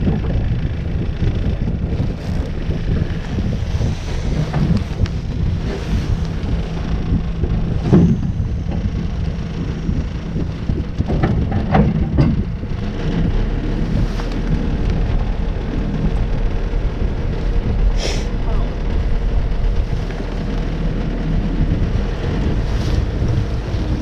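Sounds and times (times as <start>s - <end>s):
wind rumbling on microphone: 0.0s - 24.0s.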